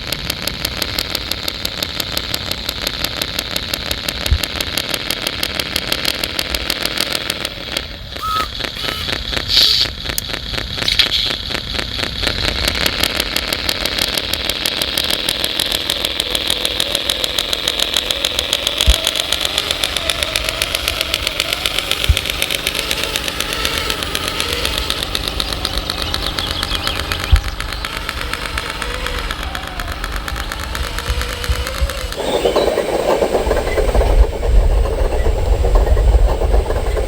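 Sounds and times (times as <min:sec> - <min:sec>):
model engine idling: 0:00.0 - 0:37.0.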